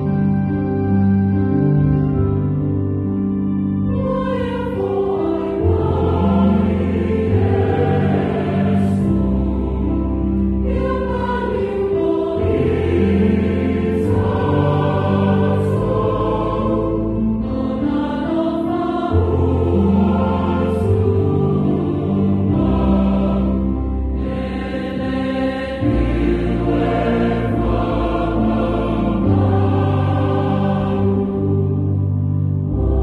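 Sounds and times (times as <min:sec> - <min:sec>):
choir singing a hymn: 0:03.8 - 0:33.0.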